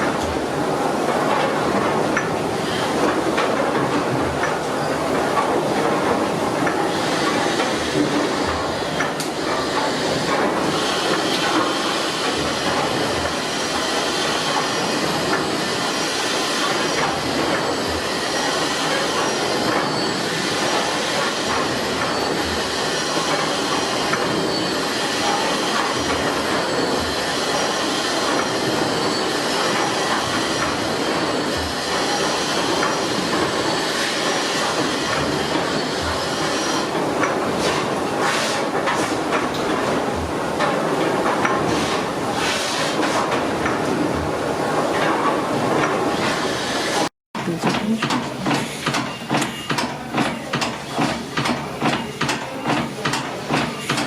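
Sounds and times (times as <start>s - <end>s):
steam engine hissing and clattering: 0.0s - 54.0s.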